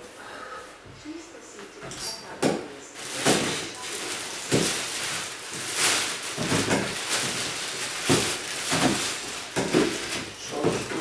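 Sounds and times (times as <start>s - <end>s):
clothes and bags rustling: 1.8s - 11.0s.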